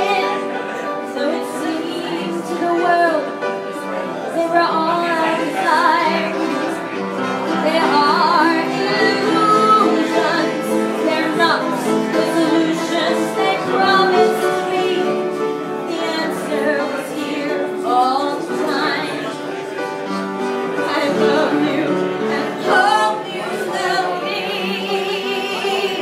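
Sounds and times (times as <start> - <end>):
woman singing into a microphone: 0.0 - 3.5, 4.3 - 6.7, 7.5 - 19.5, 20.8 - 26.0.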